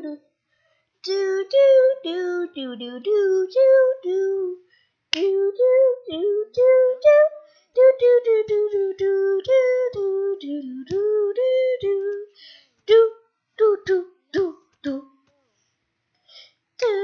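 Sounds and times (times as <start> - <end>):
person singing without words: 0.0 - 0.2, 1.0 - 15.2, 16.8 - 17.0.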